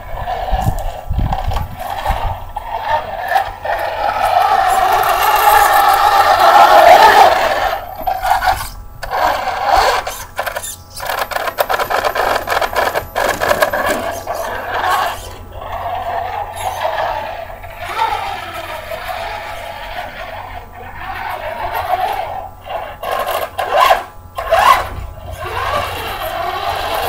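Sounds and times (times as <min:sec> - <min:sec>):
toy truck motor whine: 0:00.0 - 0:27.0
tyres scrabbling in dirt: 0:00.0 - 0:27.0.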